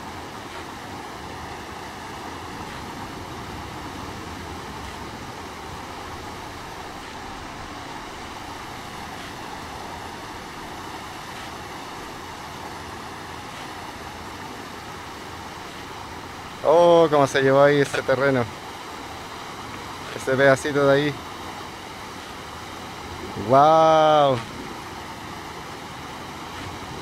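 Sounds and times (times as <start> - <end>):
stream rushing over sand: 0.0 - 27.0.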